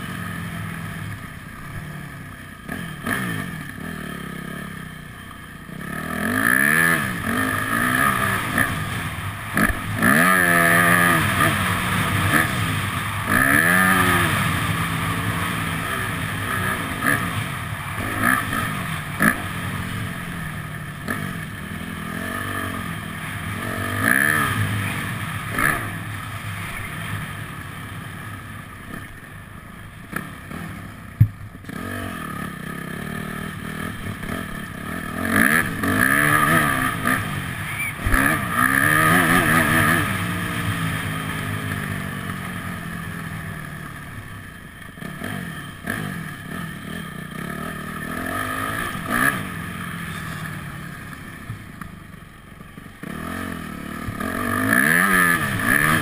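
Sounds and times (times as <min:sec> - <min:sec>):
motocross engine revving: 0:01.6 - 0:05.0, 0:05.6 - 0:28.0, 0:31.6 - 0:44.0, 0:44.8 - 0:51.6, 0:53.0 - 0:56.0.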